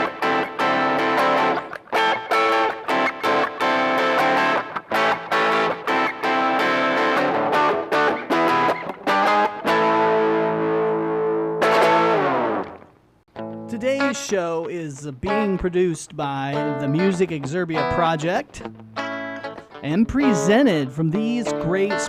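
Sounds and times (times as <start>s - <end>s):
guitar picking and chords: 0.0s - 22.0s.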